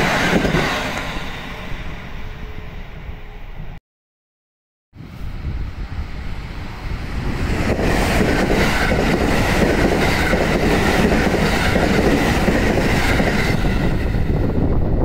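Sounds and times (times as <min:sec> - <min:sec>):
electric train passing: 0:00.0 - 0:03.8, 0:05.0 - 0:15.0.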